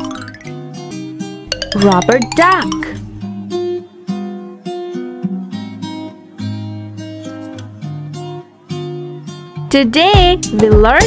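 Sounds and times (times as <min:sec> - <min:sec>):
plucked acoustic guitar melody: 0:00.0 - 0:09.7.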